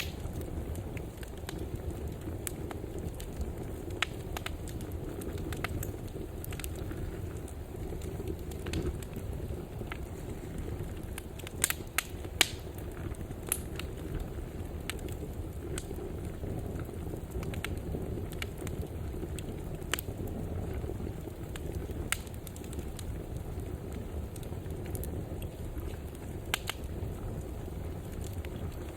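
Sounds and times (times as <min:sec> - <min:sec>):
fireplace fire crackling: 0:00.0 - 0:28.9.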